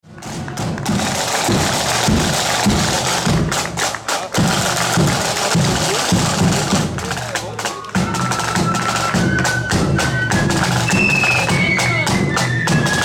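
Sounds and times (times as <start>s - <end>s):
marching band playing: 0.0s - 13.0s
drums striking a quick beat: 0.1s - 13.0s.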